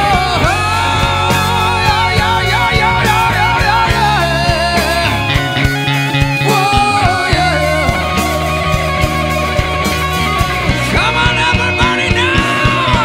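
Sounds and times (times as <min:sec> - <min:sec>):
electric guitar bending notes: 0:00.0 - 0:13.0
rock band playing: 0:00.0 - 0:13.0.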